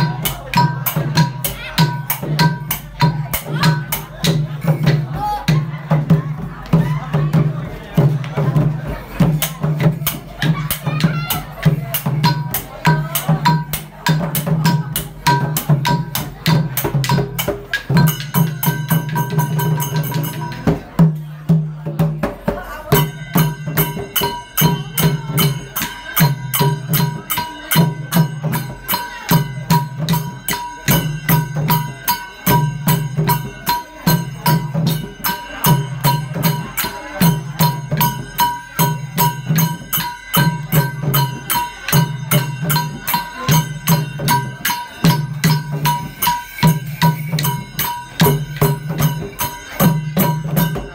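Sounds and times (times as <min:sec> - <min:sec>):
small cymbals clashing: 0:00.0 - 0:06.2, 0:08.0 - 0:21.3, 0:22.8 - 0:50.9
drums beating fast rhythm: 0:00.0 - 0:50.9.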